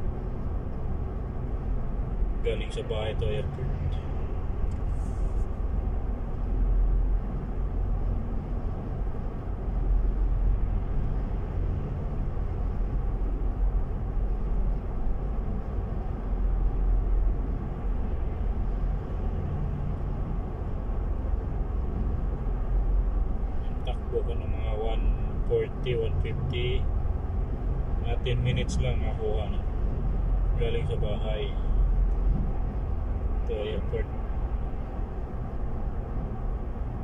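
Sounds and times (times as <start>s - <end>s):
car interior highway rumble: 0.0s - 37.0s.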